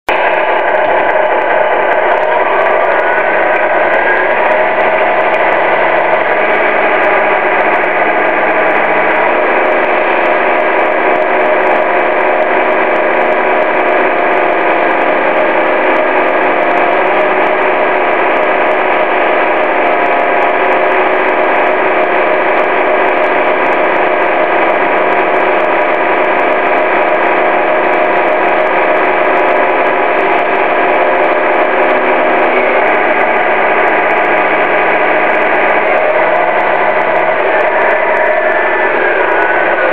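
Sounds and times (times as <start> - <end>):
toy truck engine drone: 0.1 - 39.9.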